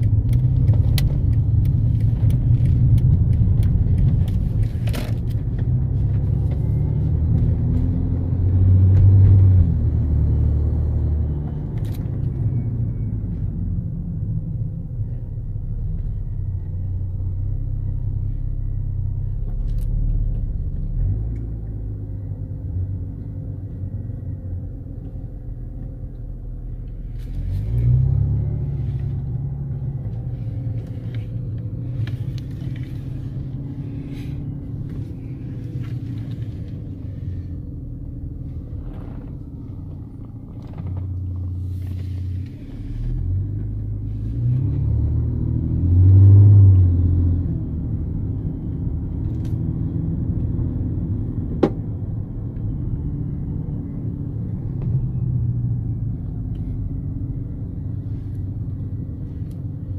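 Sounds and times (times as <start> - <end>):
car engines and road rumble: 0.0 - 59.9.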